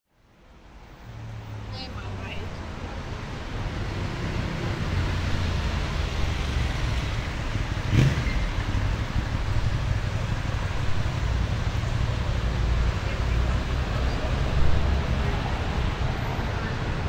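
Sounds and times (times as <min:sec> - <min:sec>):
passing cars rumbling: 0:00.4 - 0:17.0.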